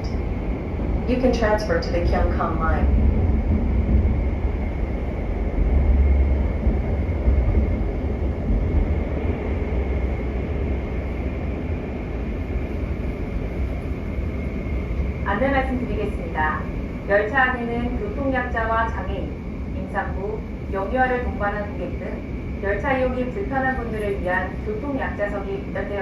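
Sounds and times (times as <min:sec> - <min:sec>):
train car low rumble: 0:00.0 - 0:26.0.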